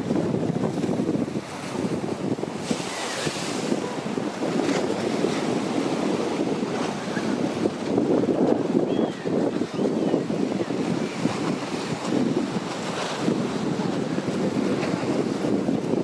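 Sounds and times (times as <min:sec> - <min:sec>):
sea waves breaking on concrete: 0:00.0 - 0:16.0
wind buffeting microphone: 0:00.0 - 0:16.0.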